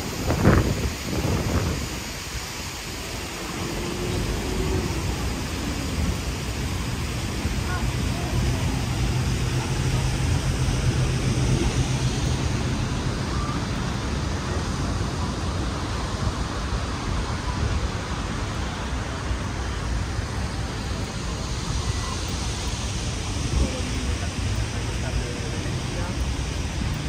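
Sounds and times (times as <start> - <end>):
faint voices of passers-by: 0.0 - 27.0
traffic on busy street: 0.0 - 27.0.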